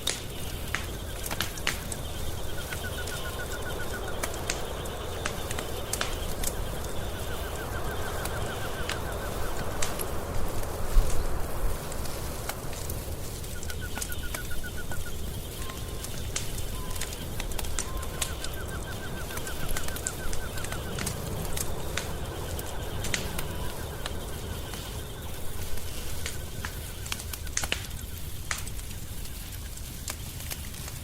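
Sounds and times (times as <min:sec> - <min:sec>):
rapid chirping trill: 0:00.0 - 0:10.9, 0:13.0 - 0:29.5
wood fire crackling: 0:00.0 - 0:31.0.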